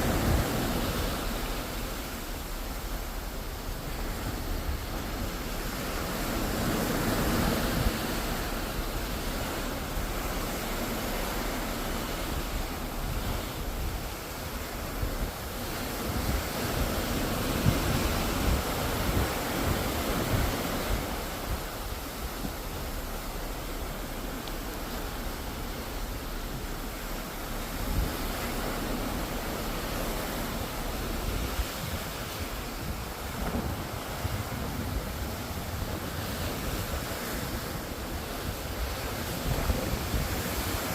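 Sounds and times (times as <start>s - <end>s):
sea water rushing: 0.0s - 40.9s
wind rumbling on microphone: 0.0s - 40.9s.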